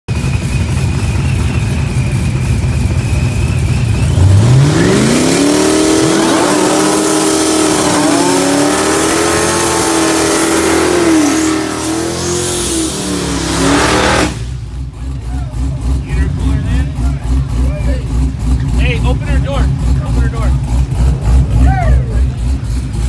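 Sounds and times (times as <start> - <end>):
car engine revving: 0.1 - 23.0.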